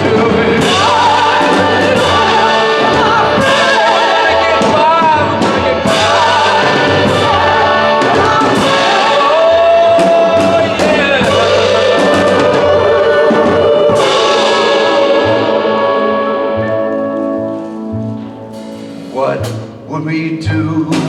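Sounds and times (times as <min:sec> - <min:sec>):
instrumental backing: 0:00.0 - 0:21.0
percussion hits: 0:00.0 - 0:21.0
voices singing together: 0:00.0 - 0:21.0.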